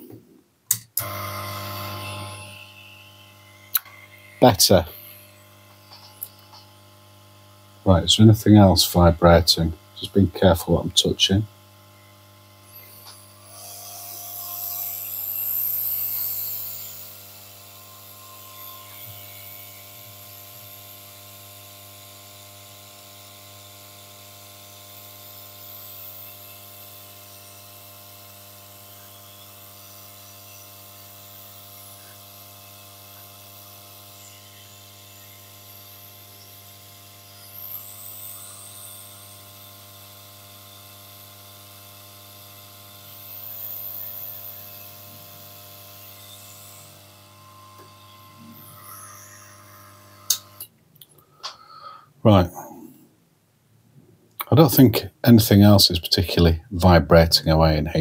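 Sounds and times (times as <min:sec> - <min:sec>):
soldering station buzzing hum: 0:00.0 - 0:53.1.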